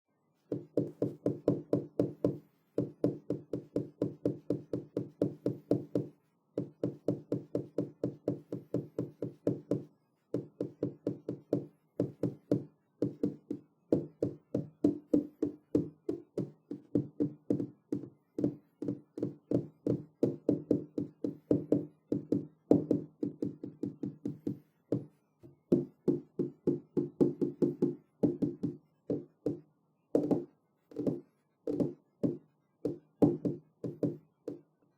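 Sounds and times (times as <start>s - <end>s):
fingers tapping on glass window: 0.5s - 34.6s.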